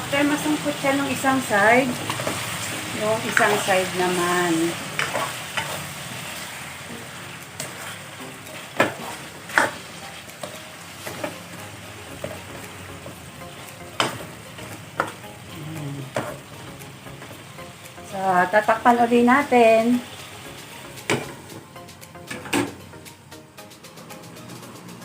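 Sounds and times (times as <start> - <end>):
chicken sizzling in hot oil: 0.0 - 22.9.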